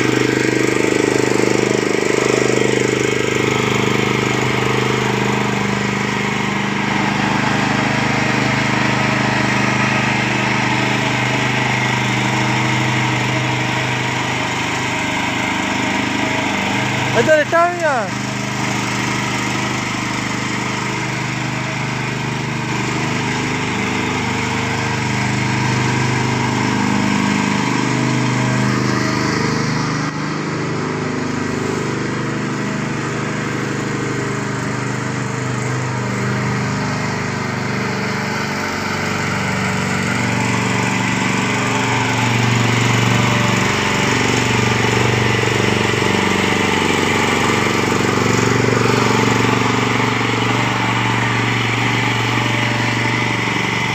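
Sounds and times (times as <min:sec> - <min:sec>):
small engine running under load: 0:00.0 - 0:53.9.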